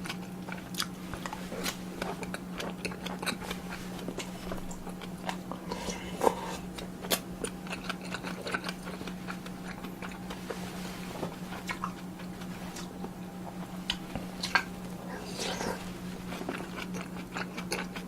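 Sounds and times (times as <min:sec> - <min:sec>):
chewing and wet mouth sounds: 0:00.0 - 0:18.0
steady low hum: 0:00.0 - 0:18.0.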